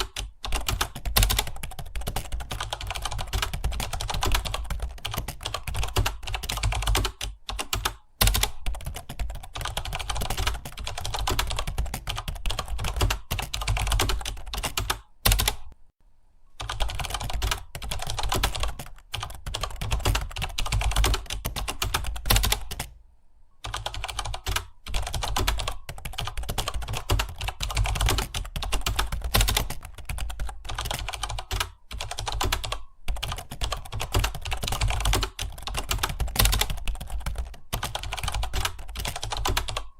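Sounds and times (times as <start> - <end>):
fast keyboard typing: 0.0 - 15.8, 16.6 - 23.0, 23.6 - 39.9.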